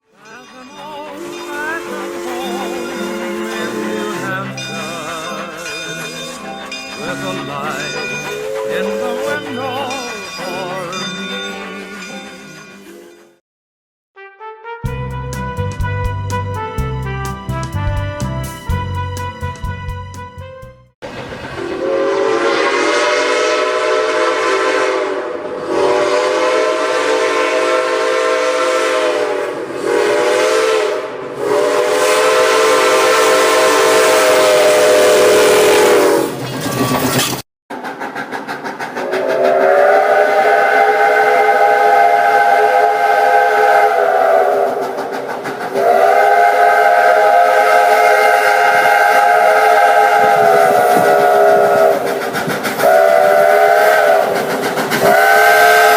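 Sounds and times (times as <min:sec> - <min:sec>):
locomotive horn blasts: 0:00.3 - 0:12.2, 0:14.2 - 0:20.6, 0:21.6 - 0:36.4, 0:39.2 - 0:44.8, 0:45.8 - 0:52.1, 0:52.8 - 0:54.4, 0:55.0 - 0:55.9.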